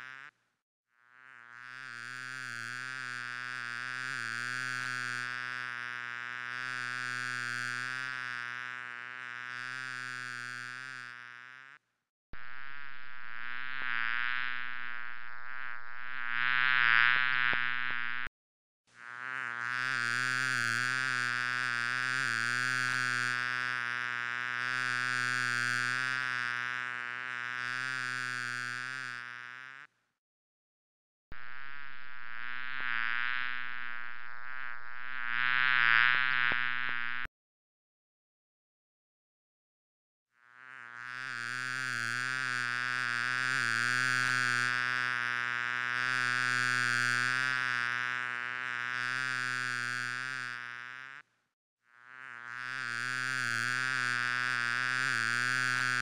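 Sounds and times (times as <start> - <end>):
housefly buzzing: 0.0 - 0.4, 1.0 - 11.8, 12.4 - 18.3, 19.0 - 30.0, 31.3 - 37.3, 40.4 - 51.3, 51.9 - 56.0.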